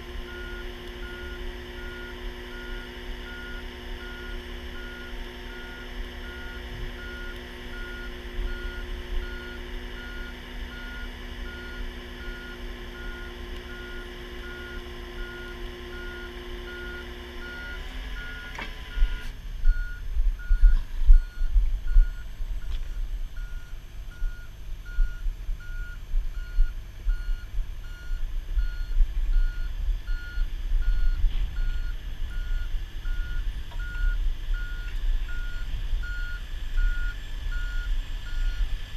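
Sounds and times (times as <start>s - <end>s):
diesel engine running: 0.0s - 38.9s
low uneven rumble: 0.0s - 38.9s
backup alarm beeping: 0.3s - 38.6s.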